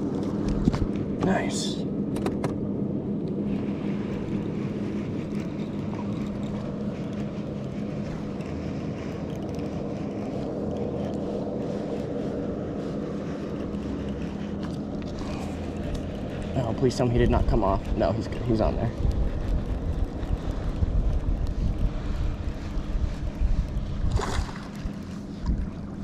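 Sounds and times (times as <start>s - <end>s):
constant wash of noise: 0.0s - 26.0s.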